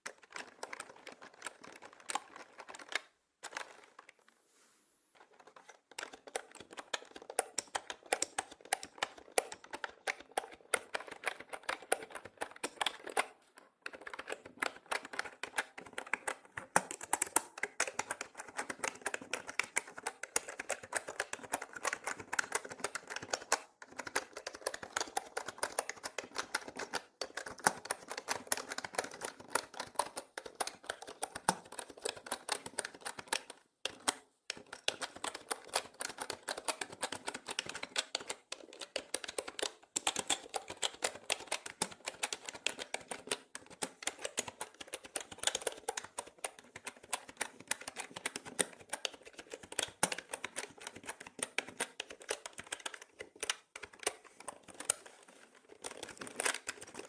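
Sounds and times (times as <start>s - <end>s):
mechanical keyboard typing: 0.0s - 4.0s, 5.2s - 57.0s.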